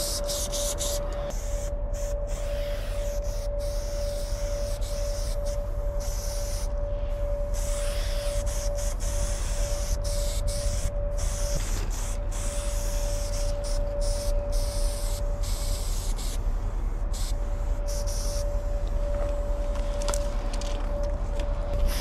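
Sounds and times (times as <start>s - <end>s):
spray paint can hissing: 0.0s - 6.7s, 7.5s - 18.7s
faint hum: 0.0s - 22.0s.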